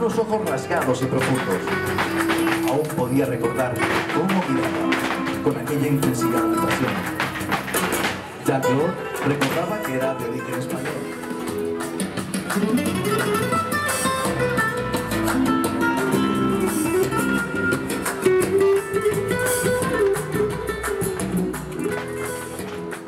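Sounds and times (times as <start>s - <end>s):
flamenco guitar strumming: 0.0s - 23.0s.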